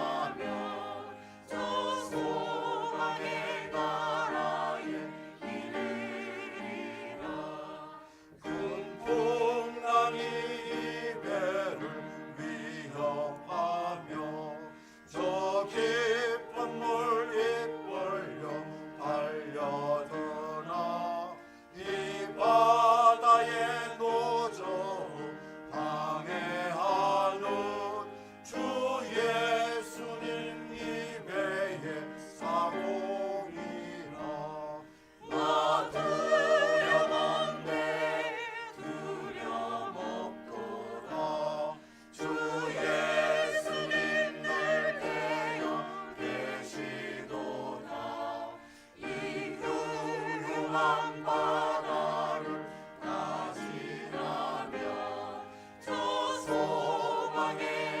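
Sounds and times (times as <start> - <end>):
vocal ensemble singing a hymn: 0.0 - 58.0.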